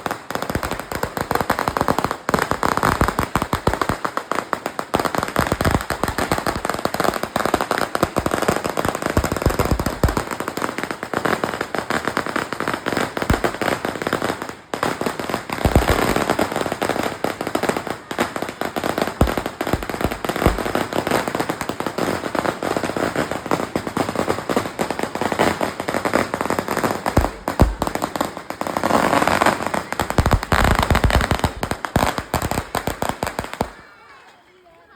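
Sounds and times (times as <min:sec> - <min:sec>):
firecrackers crackling: 0:00.0 - 0:34.9.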